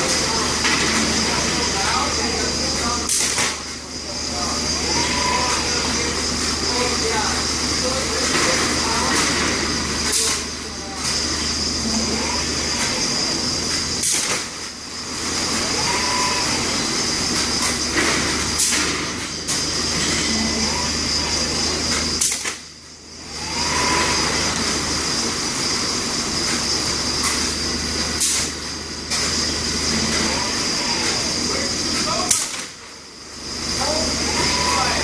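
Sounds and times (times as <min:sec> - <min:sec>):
industrial hum: 0:00.0 - 0:35.0
servo drives whining: 0:00.0 - 0:35.0.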